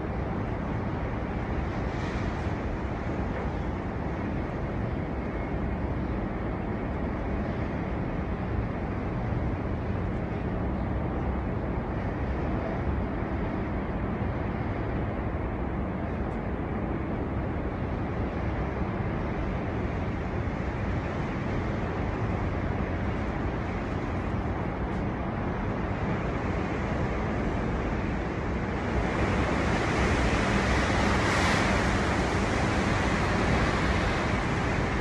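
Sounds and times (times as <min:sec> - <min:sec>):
storm wind blowing: 0:00.0 - 0:35.0.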